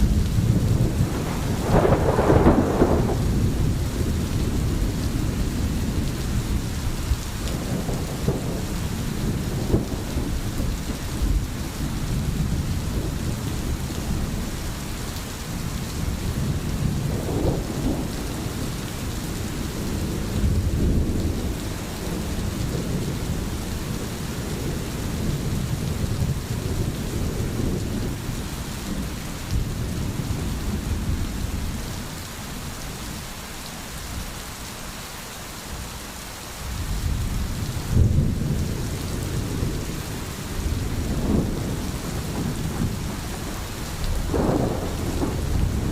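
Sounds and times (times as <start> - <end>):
low rolling thunder: 0.0 - 33.2, 36.7 - 45.9
steady rain: 0.0 - 45.9.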